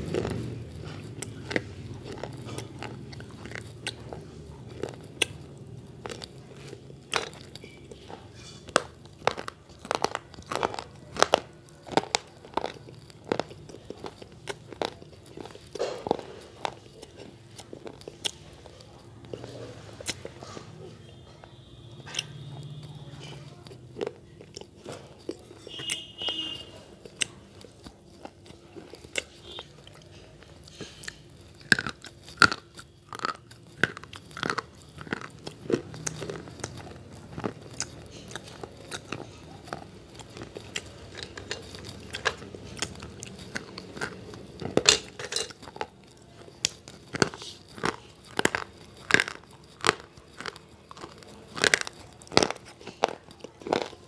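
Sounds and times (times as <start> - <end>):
slate pencils crunching in mouth: 0.0 - 54.0.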